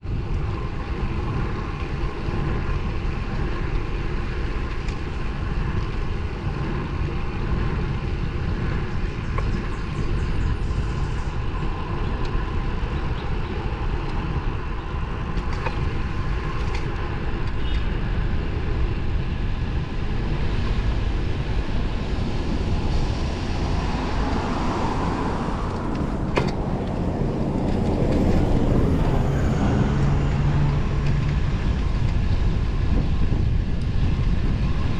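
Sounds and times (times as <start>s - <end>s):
bike tyres rolling on pavement: 0.0s - 34.9s
wind on microphone: 0.0s - 34.9s.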